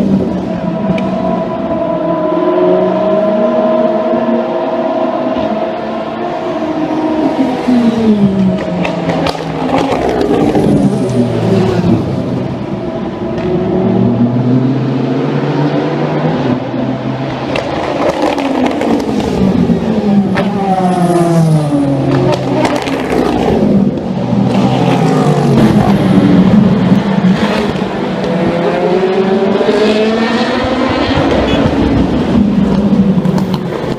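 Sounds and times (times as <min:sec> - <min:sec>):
race cars passing at speed: 0:00.0 - 0:33.9.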